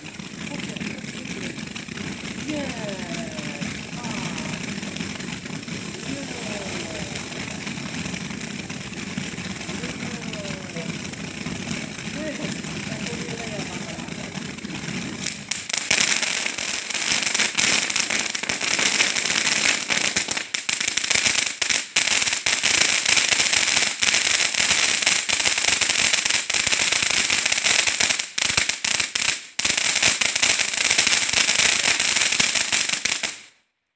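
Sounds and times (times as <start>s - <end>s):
firework fountain crackling: 0.0s - 33.7s.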